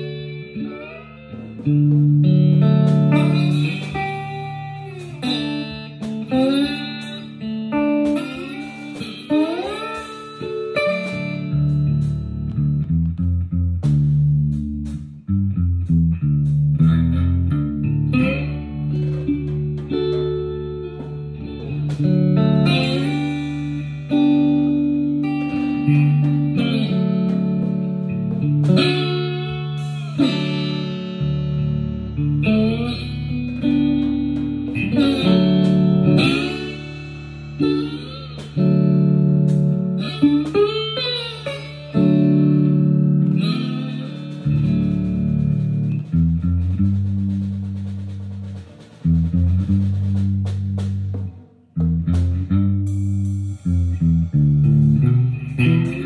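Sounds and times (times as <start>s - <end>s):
electric guitar lead: 0.0s - 56.0s.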